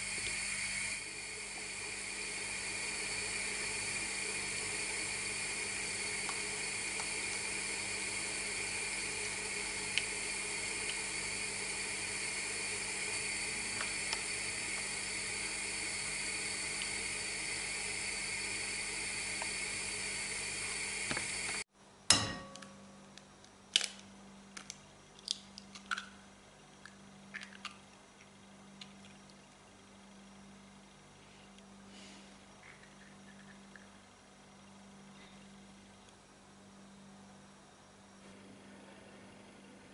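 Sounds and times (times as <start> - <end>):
motor hum with high whine: 0.0 - 25.6, 26.3 - 39.9.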